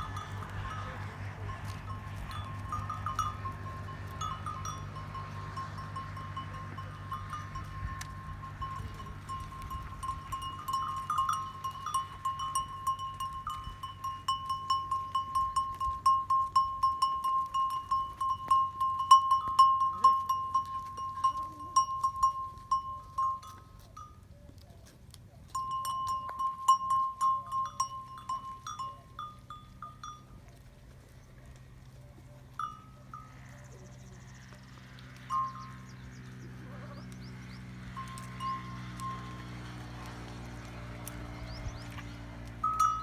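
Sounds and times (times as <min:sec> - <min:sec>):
animal neck bells clinking: 0:00.0 - 0:43.0.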